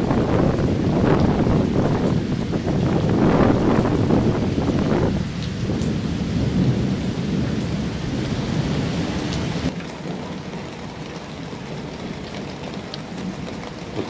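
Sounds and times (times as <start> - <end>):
rain falling on a tarp: 0.0 - 14.0.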